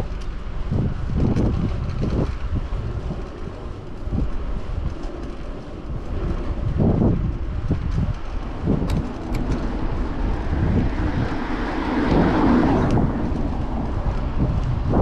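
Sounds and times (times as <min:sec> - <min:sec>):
city traffic noise: 0:00.0 - 0:15.0
wind buffeting microphone: 0:00.0 - 0:15.0.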